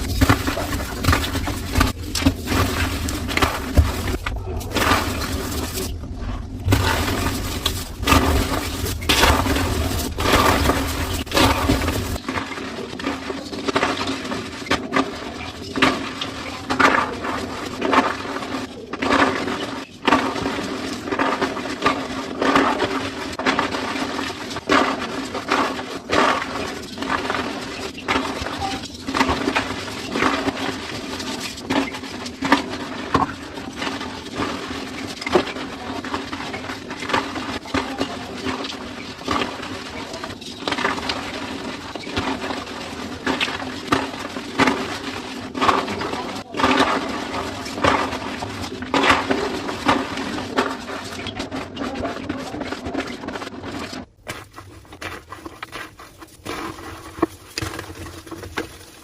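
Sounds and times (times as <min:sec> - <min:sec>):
chalk blocks crunching: 0:00.0 - 0:59.0.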